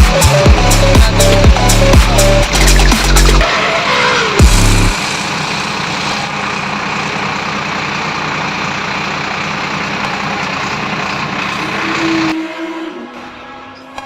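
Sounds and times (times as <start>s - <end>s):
tractor diesel engine running: 0.0s - 12.4s.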